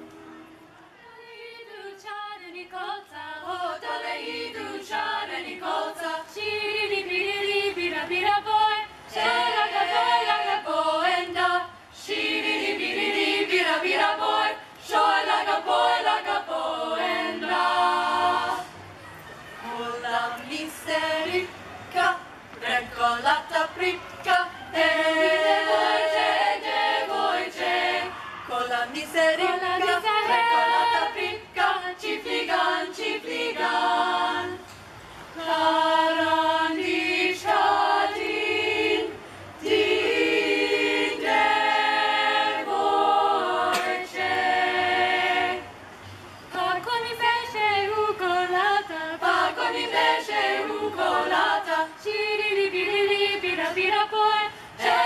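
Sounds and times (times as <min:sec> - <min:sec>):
women singing a cappella: 0:00.0 - 0:19.0, 0:19.6 - 0:55.0.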